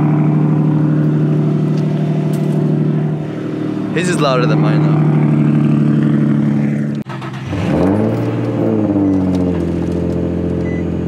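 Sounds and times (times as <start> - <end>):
car engine idling: 0.0 - 11.0
car engine revving: 0.0 - 11.0.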